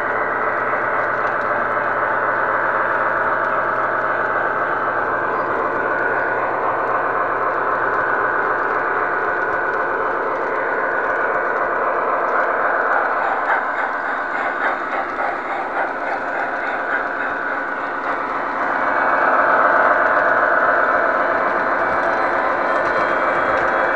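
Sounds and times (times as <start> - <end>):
model train rolling rumble: 0.0 - 23.9.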